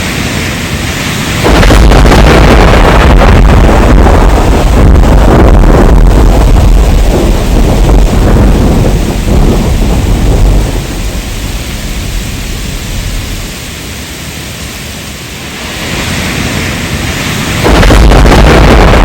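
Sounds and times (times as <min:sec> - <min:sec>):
crackling thunderclap: 0:00.0 - 0:13.8, 0:16.5 - 0:19.0
thunder rumbling: 0:00.0 - 0:14.1, 0:16.4 - 0:19.0
heavy rain: 0:00.0 - 0:19.0.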